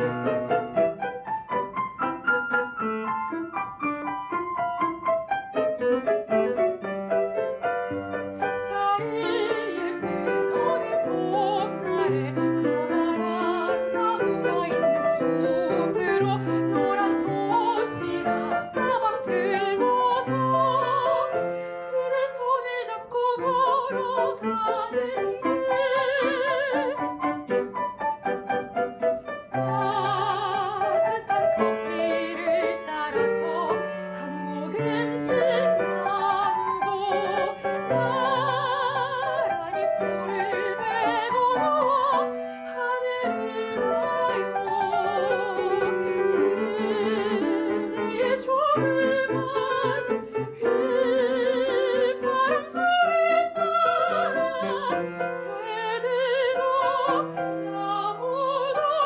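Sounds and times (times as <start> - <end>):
piano accompaniment: 0.0 - 59.0
soprano singing operatic style: 5.4 - 59.0.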